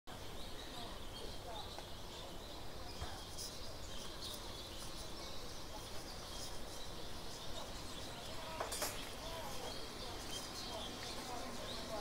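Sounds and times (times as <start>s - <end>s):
birds chirping: 0.1s - 12.0s
steady background hiss: 0.1s - 12.0s.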